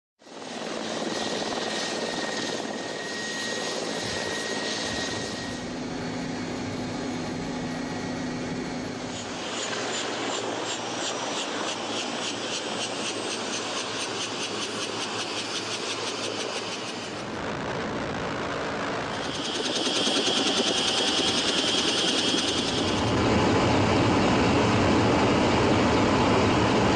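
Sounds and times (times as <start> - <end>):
helicopter engines and rotor: 0.2 - 26.9.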